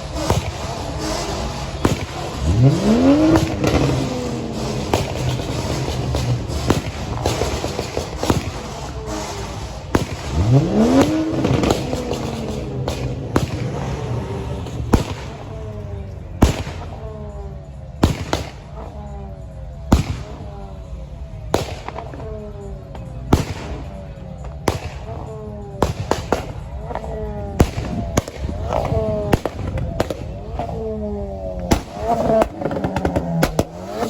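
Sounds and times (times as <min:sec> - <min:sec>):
engine revving: 0:00.0 - 0:34.0
fireworks bangs: 0:00.0 - 0:34.0.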